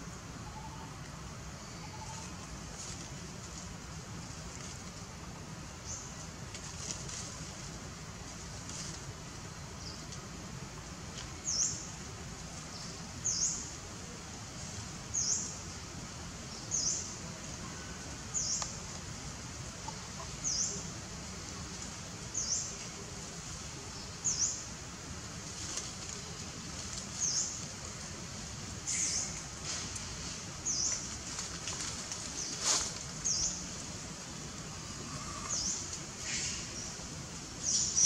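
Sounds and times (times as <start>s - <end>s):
high-pitched hiss: 0.0s - 38.0s.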